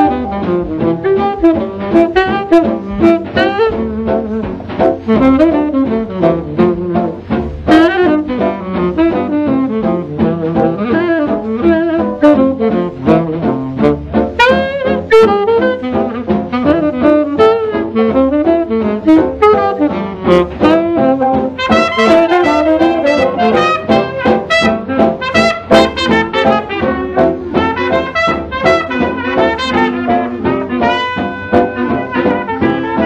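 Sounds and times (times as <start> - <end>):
horns playing melody: 0.0 - 33.0
instrumental jazz band: 0.0 - 33.0.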